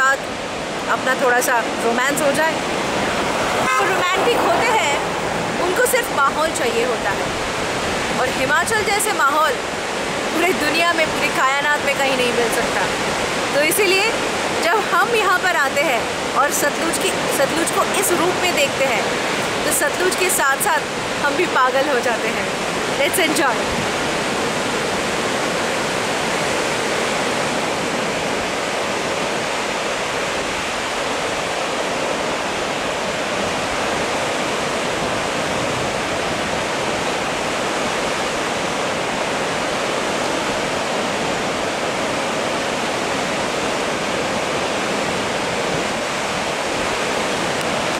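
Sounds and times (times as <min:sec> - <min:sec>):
river rushing over boulders: 0:00.0 - 0:47.9.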